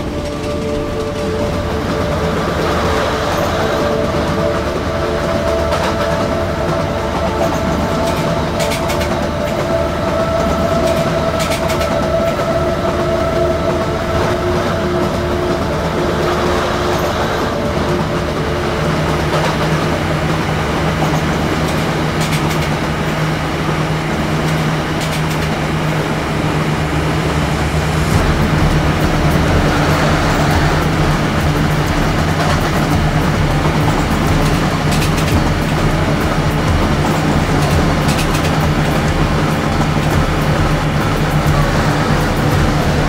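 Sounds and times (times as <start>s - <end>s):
train hum: 0.0s - 43.0s
train wheels rumbling on rails: 0.0s - 43.0s.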